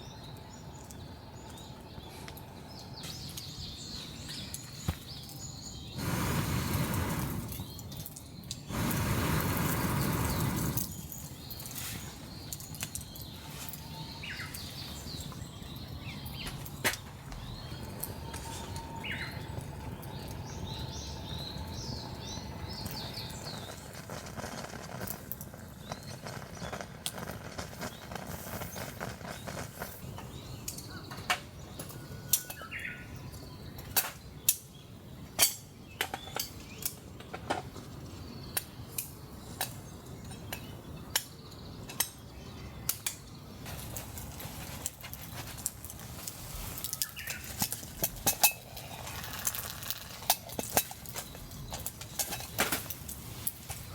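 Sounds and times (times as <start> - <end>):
birds chirping: 0.0 - 53.9
outdoor background hiss: 0.0 - 53.9.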